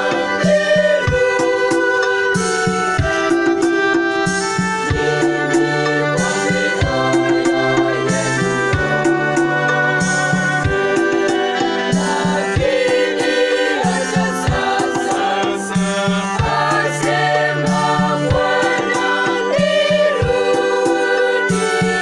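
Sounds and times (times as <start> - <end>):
electronic organ chords: 0.0 - 22.0
mixed choir singing gospel: 0.0 - 22.0.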